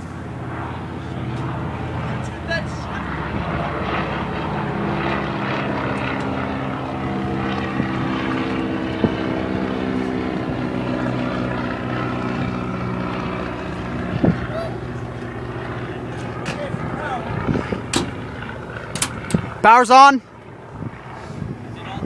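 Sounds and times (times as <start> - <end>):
propeller aircraft engine running: 0.0 - 22.0.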